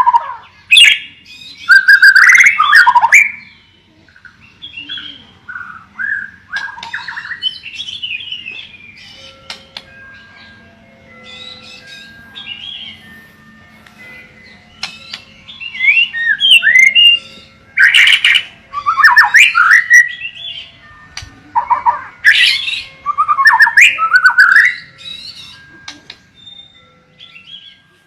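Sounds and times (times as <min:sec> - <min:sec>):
songbird whistling and trilling: 0:00.0 - 0:10.6, 0:14.4 - 0:27.8.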